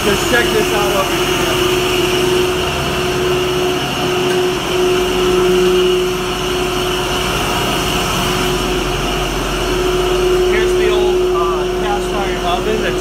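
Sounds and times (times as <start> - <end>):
machinery droning: 0.0 - 13.0
machinery hum: 0.0 - 13.0.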